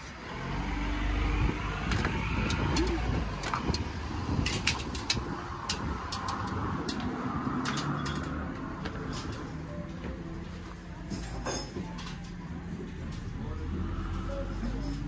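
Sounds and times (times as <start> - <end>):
passing motor vehicle rumble: 0.0 - 15.0.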